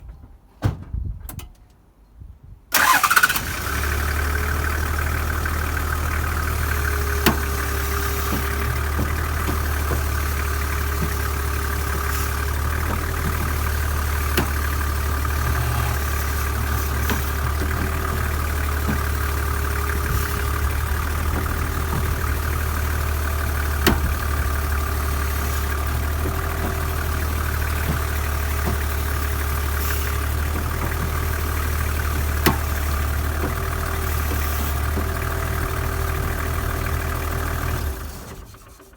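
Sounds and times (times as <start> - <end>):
engine starting and idling: 2.7 - 38.9.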